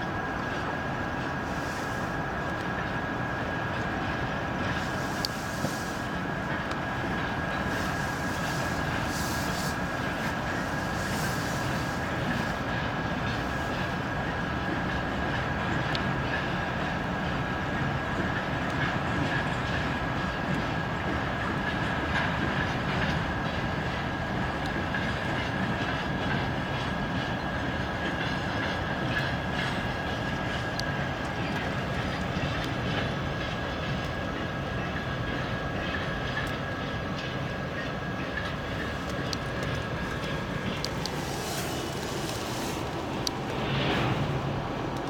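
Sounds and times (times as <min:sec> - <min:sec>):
diesel locomotive engine rumble: 0:00.0 - 0:45.0
train wheels on rails: 0:00.0 - 0:45.0.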